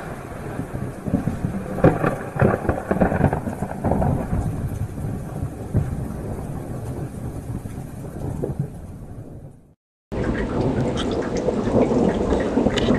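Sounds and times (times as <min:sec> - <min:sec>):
thunder rumbling: 0:00.0 - 0:12.9.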